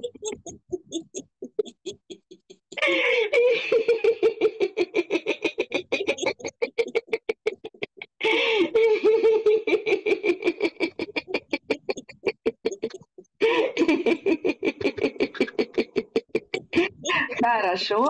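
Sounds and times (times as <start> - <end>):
person laughing in pulsing bursts: 0.0 - 17.4.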